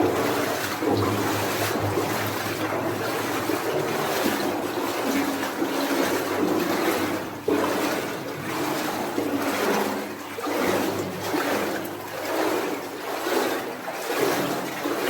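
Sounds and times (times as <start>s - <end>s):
water sloshing around wading legs: 0.0s - 15.0s.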